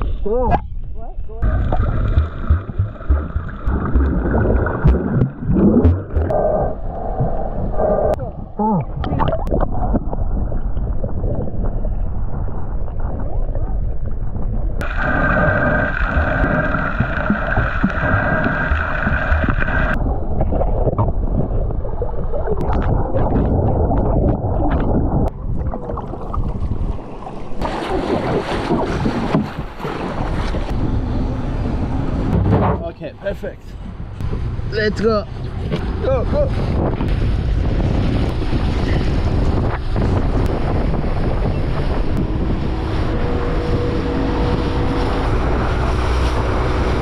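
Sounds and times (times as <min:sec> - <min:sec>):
wind over microphone: 0:00.0 - 0:33.0, 0:33.6 - 0:47.0
water noise: 0:00.0 - 0:47.0.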